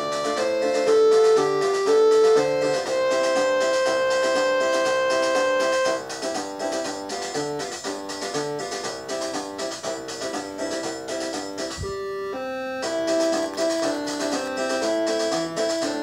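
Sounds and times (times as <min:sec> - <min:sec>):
keyboard music: 0:00.0 - 0:16.0.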